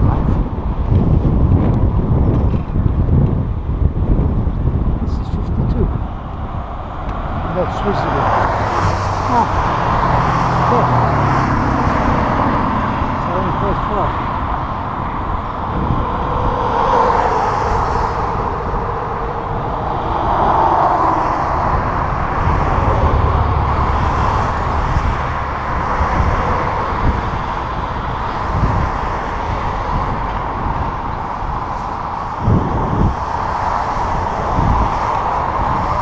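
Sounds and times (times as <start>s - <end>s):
wind rushing over microphone: 0.0s - 36.0s.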